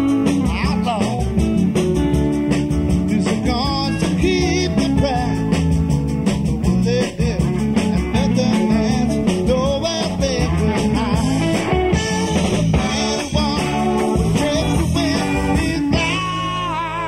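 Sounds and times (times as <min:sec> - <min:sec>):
electric guitar bending lead: 0:00.0 - 0:17.0
live rock band playing: 0:00.0 - 0:17.0.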